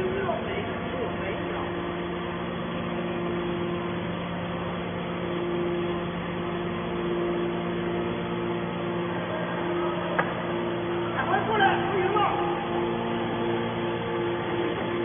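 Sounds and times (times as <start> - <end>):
hydraulic baler humming: 0.0 - 15.0.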